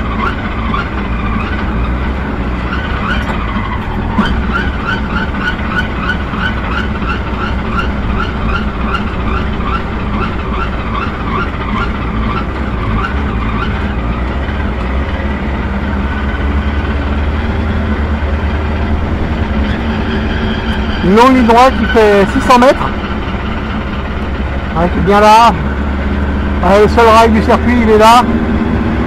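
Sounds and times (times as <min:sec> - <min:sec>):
race car engine droning: 0:00.0 - 0:29.0.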